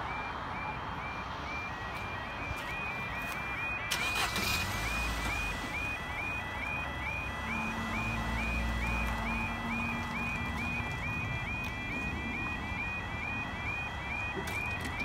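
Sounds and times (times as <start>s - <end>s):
level crossing warbling alarm: 0.0s - 15.0s
vehicle engine rumbling: 0.0s - 15.0s.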